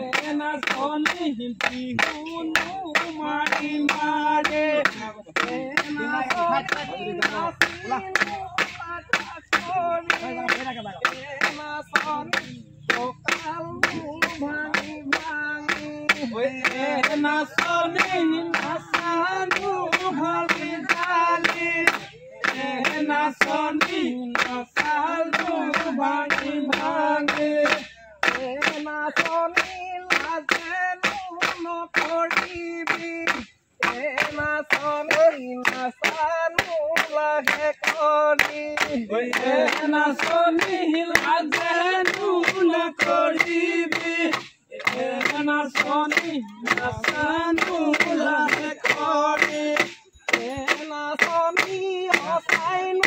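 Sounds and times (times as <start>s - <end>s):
rhythmic hand clapping: 0.0s - 53.0s
voices singing: 0.0s - 53.0s.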